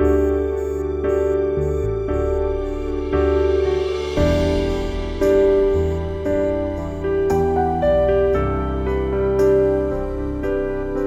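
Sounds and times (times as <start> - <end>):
soft new-age keyboard music: 0.0 - 11.0.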